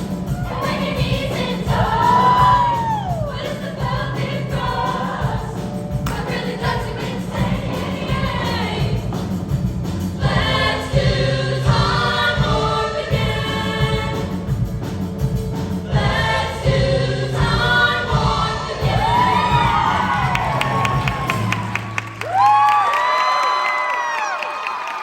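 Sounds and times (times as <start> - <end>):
girls' choir singing in harmony: 0.0 - 14.9, 15.8 - 21.9.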